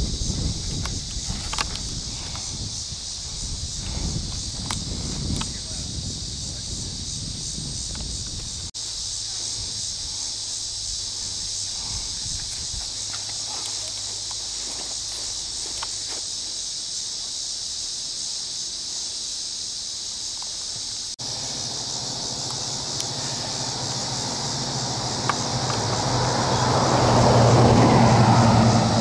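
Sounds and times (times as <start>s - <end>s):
high-pitched insect drone: 0.0s - 29.0s
vehicle rumble: 0.0s - 29.0s.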